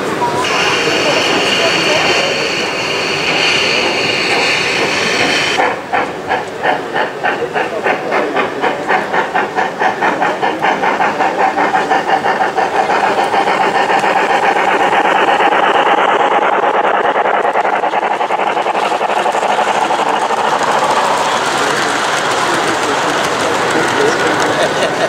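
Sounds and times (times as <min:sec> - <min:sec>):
model steam locomotive chuffing: 0:00.0 - 0:25.0
steam hissing: 0:00.0 - 0:25.0.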